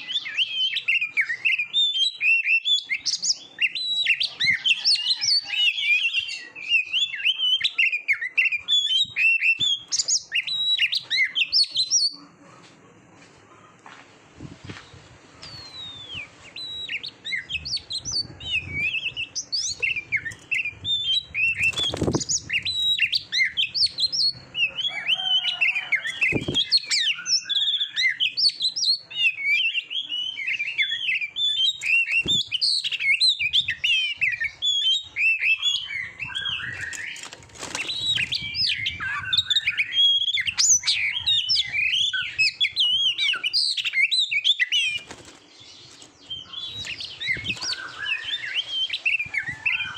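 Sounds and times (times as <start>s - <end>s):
bird singing whistled notes: 0.0s - 12.2s, 15.4s - 37.2s, 37.8s - 45.1s, 46.3s - 49.9s.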